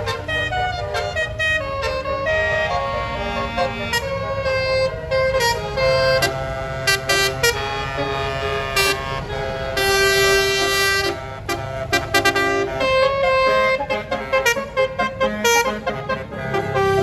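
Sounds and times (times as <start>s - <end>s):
bus air horn playing a tune: 0.0s - 17.0s
engine and traffic rumble: 0.0s - 17.0s.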